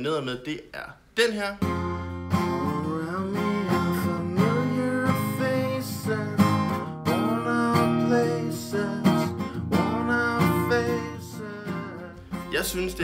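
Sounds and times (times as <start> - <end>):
man singing: 1.2 - 13.0
strummed acoustic guitar: 1.2 - 13.0.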